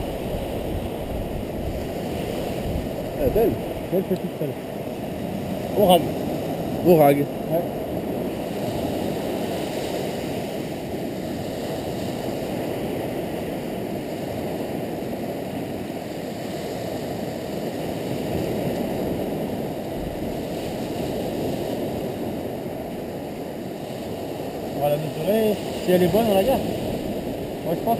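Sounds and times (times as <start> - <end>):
waves breaking on shore: 0.0 - 27.9.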